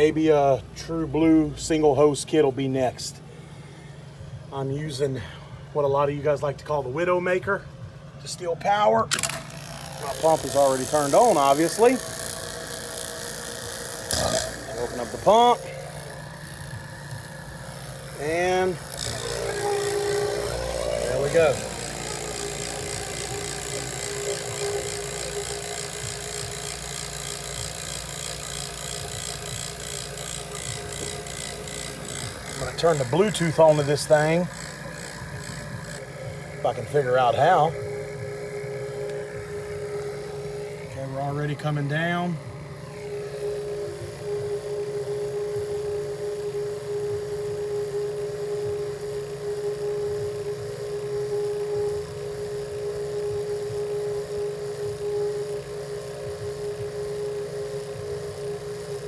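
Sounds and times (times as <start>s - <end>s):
vacuum pump running: 0.0s - 59.0s.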